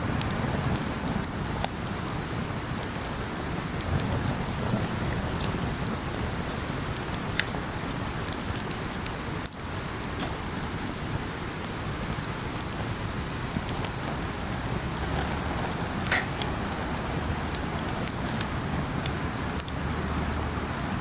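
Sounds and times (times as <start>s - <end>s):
campfire crackling: 0.0s - 21.0s
sharp pops of burning wood: 0.1s - 20.5s.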